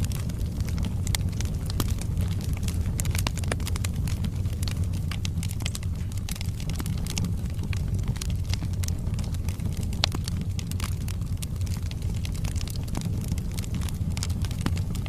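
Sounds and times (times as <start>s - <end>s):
burning wood crackling and popping: 0.0s - 15.0s
fire rumbling: 0.0s - 15.0s.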